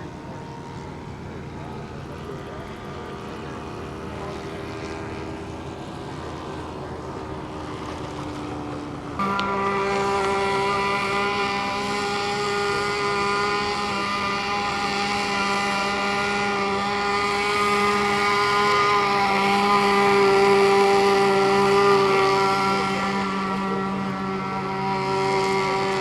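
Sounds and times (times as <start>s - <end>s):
model airplane engine buzzing: 0.0s - 26.0s.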